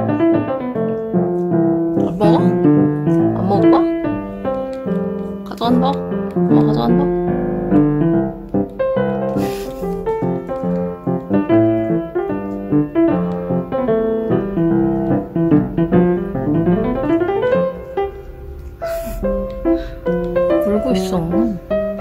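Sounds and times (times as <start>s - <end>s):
solo piano melody: 0.0s - 22.0s.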